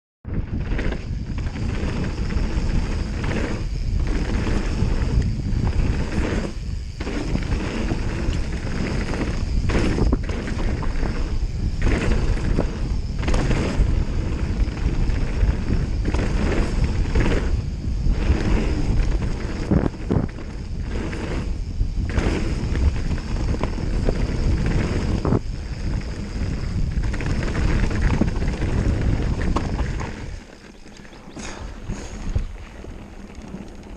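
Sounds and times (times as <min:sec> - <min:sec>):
wind buffeting microphone: 0:00.2 - 0:33.9
bike rattling over bumps: 0:00.3 - 0:33.9
tyres rumbling over gravel: 0:00.4 - 0:33.9.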